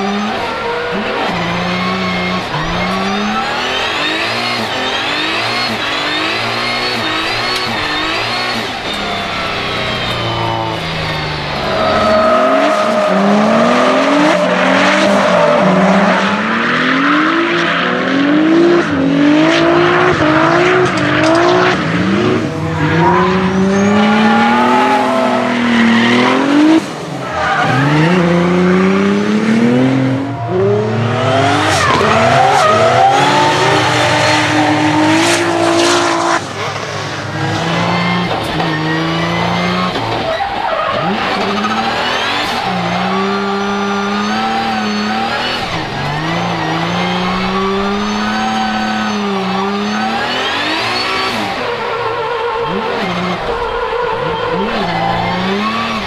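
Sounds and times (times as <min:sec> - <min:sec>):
tyres screeching: 0:00.0 - 0:16.8, 0:20.0 - 0:56.0
car engine revving: 0:00.0 - 0:56.0.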